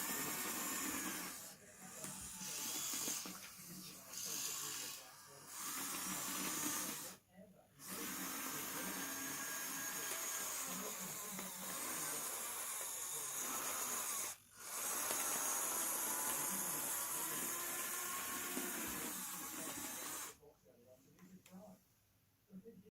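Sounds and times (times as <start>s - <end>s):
small electric motors whirring: 0.0s - 7.2s, 7.8s - 20.4s.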